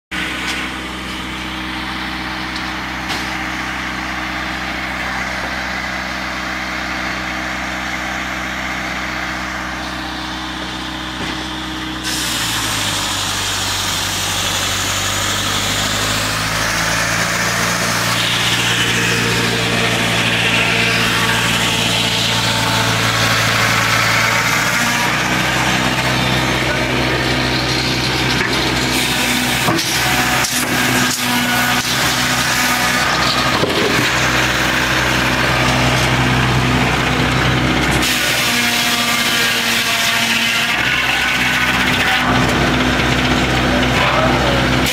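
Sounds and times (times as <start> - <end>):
saw cutting logs: 0.1 - 44.9
sawmill machinery humming: 0.1 - 44.9.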